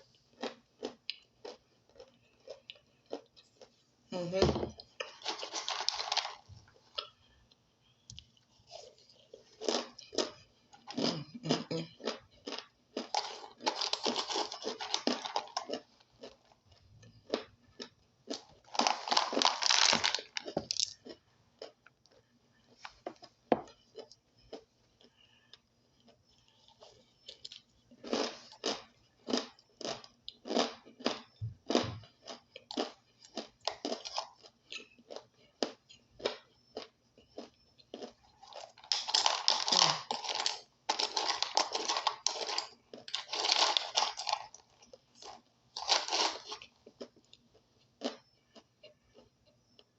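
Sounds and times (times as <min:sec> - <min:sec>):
person chewing crunchy food: 0:00.0 - 0:03.8, 0:04.8 - 0:49.9.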